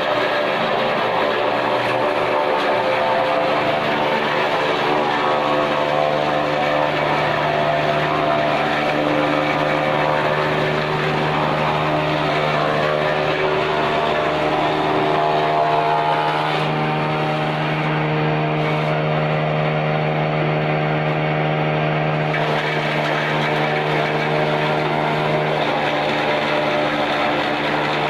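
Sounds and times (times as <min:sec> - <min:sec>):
chaff cutter motor whirring: 0:00.0 - 0:28.0.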